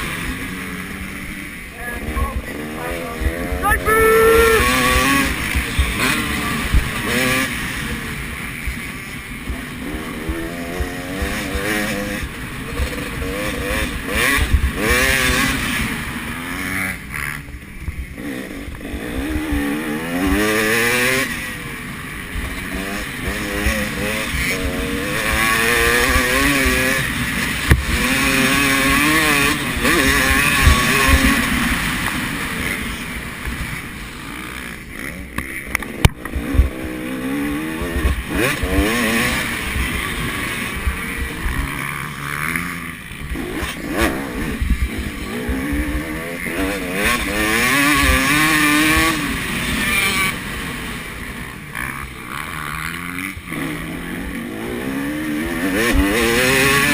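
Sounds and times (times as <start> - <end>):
motocross motorcycles revving: 0.0 - 56.9.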